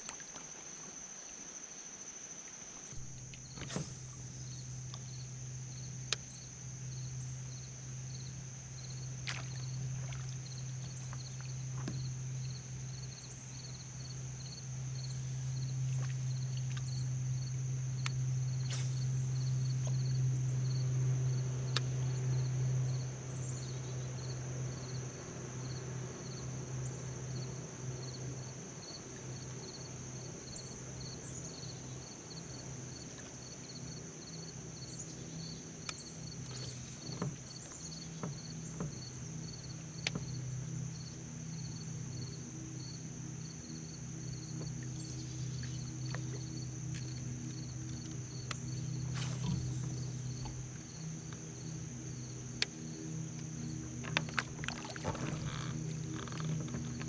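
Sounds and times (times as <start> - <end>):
boat motor droning: 0.0 - 57.0
insects trilling: 0.0 - 57.0
fast pulsing insect chirp: 0.8 - 57.0.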